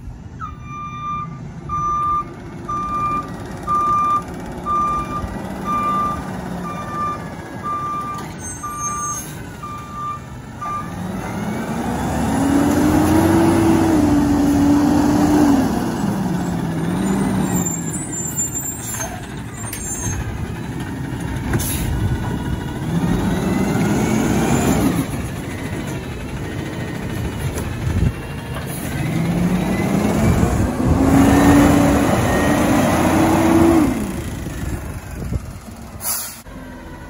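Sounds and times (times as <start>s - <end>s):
diesel truck engine: 0.0s - 37.0s
truck reversing alarm beeping: 0.3s - 21.1s, 21.7s - 35.0s.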